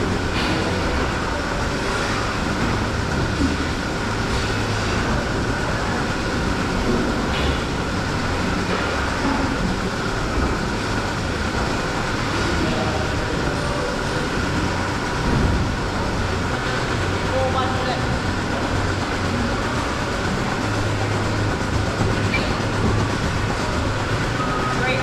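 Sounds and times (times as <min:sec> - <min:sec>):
milking machinery rumble and hum: 0:00.0 - 0:25.0.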